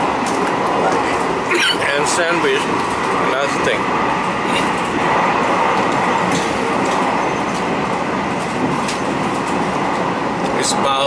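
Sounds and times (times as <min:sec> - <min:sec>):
train cabin rush: 0:00.0 - 0:11.0.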